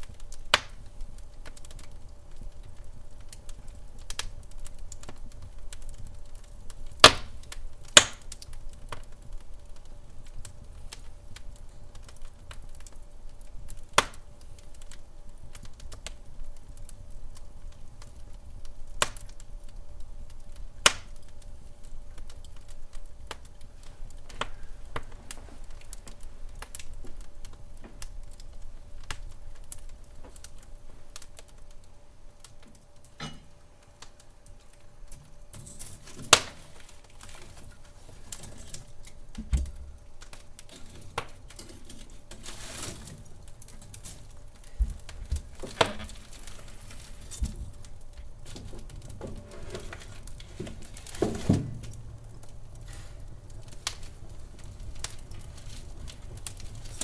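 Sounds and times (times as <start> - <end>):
sharp pops of fire: 0.0 - 57.0
soft hiss of fire: 0.0 - 57.0
wood fire crackling: 0.0 - 57.0.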